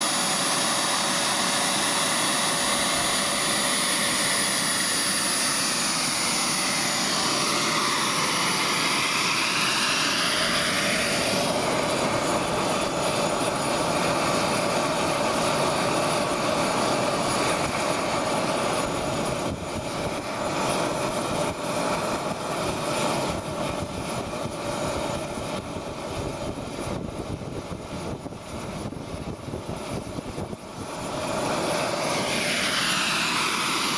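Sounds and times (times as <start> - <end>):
jet turbine roar with whistle: 0.0 - 33.9.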